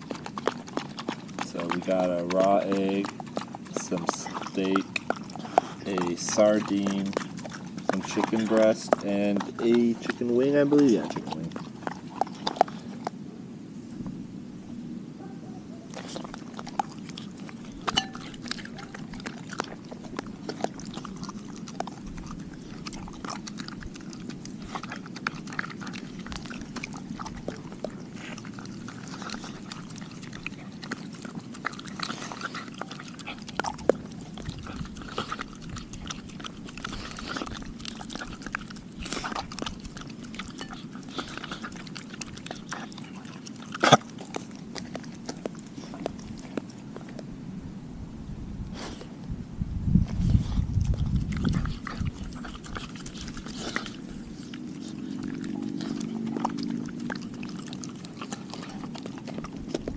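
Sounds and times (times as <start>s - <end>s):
dog chewing and biting food: 0.0s - 13.2s, 15.9s - 47.3s, 49.9s - 59.9s.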